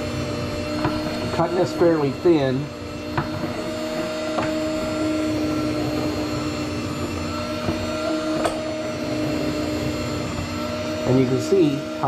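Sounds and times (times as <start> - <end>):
meat slicer motor humming: 0.0 - 12.0.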